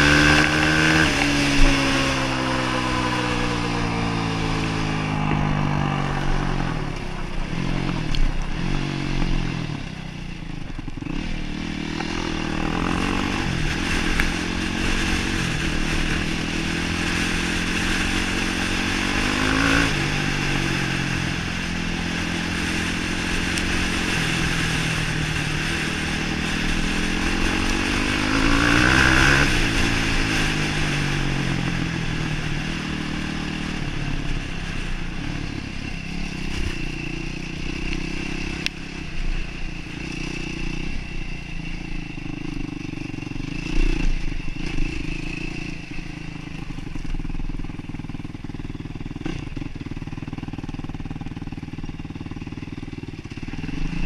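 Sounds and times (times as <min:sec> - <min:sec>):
quad bike engine revving: 0:00.0 - 0:10.1, 0:10.8 - 0:54.0.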